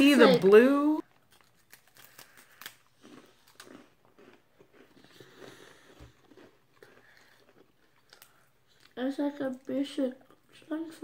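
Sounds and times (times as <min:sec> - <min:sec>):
crackers being chewed: 0:01.0 - 0:10.7.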